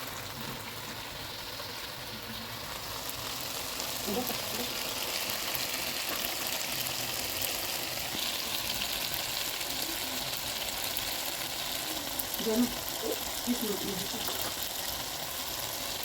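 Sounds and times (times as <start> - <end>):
tomatoes sizzling in a frying pan: 0.0 - 16.0.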